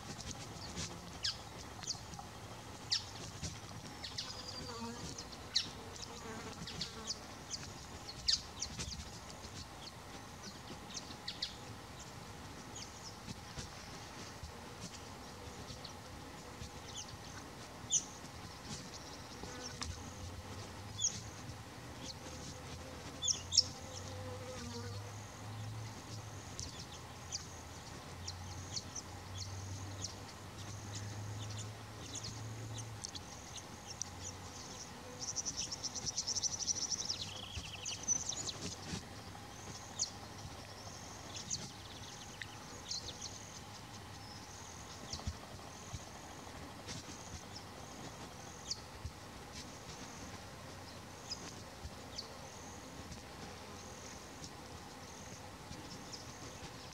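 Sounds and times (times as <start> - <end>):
insects buzzing and chirping: 0.0 - 56.9
low buzzing hum: 0.0 - 56.9.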